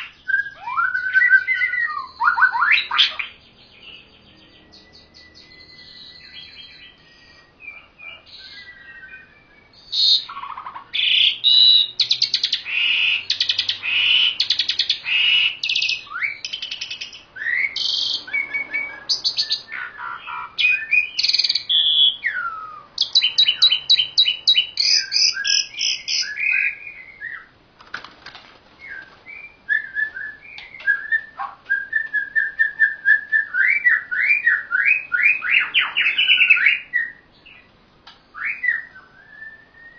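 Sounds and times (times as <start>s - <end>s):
songbirds whistling and trilling: 0.0s - 39.9s.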